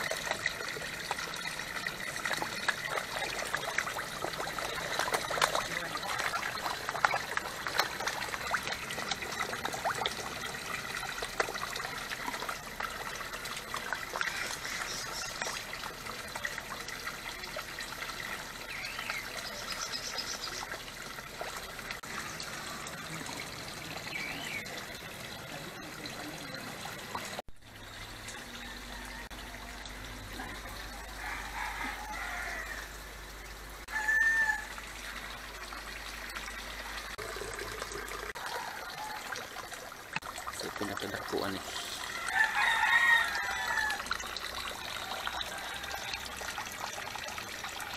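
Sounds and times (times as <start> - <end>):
water splashing into tank: 0.0 - 27.4, 34.1 - 47.9.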